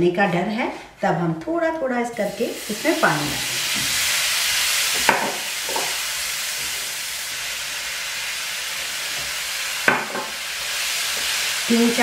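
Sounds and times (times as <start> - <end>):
spices sizzling in hot oil: 2.1 - 12.0.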